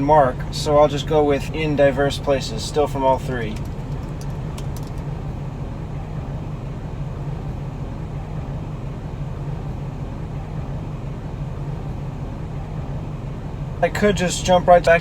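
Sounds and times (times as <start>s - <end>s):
steady low rumbling hum: 0.0s - 15.0s.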